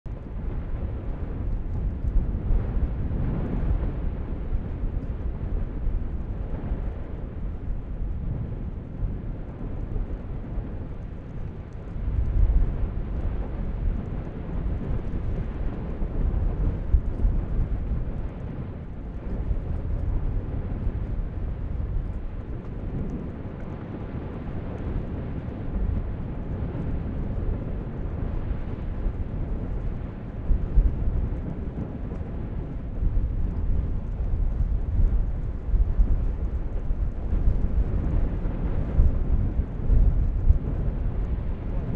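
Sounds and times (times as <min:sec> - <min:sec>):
volcanic vent rumbling: 0:00.0 - 0:41.9.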